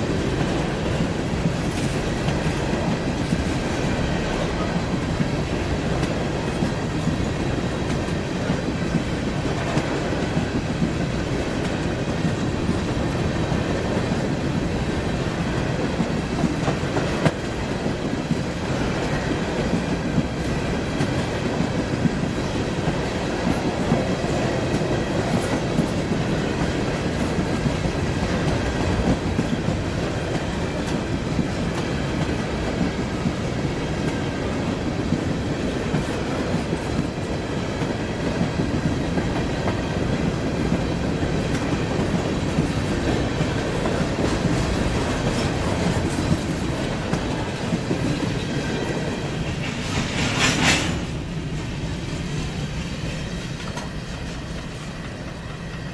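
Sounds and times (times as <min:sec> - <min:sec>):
freight train wheels clattering: 0:00.0 - 0:55.9.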